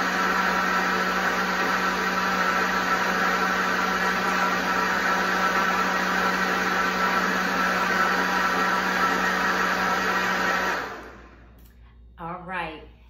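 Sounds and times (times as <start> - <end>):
blender motor whirring: 0.0 - 11.5.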